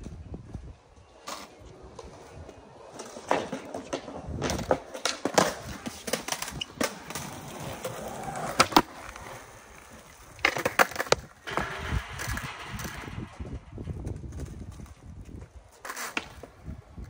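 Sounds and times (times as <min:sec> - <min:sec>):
skateboard wheels rolling on concrete: 0:00.0 - 0:17.0
skateboard clacks and knocks: 0:02.0 - 0:16.7.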